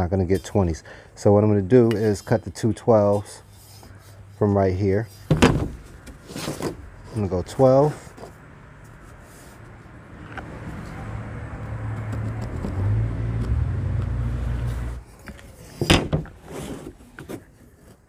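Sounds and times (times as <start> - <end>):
vehicle engine rumbling: 0.0 - 17.8.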